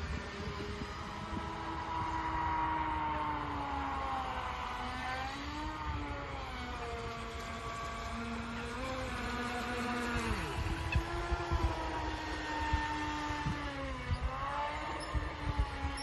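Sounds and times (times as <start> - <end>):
toy boat motor whining: 0.2 - 16.0.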